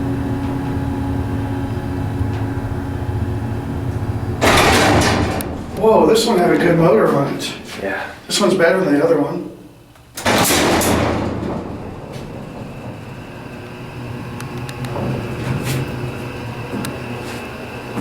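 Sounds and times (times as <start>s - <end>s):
elevator doors sliding open: 0.0s - 7.8s, 10.2s - 18.0s
steady low hum: 0.0s - 18.0s.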